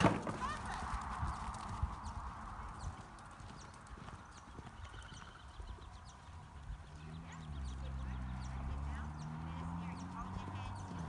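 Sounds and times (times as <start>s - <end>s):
horse galloping on sand: 0.0s - 11.0s.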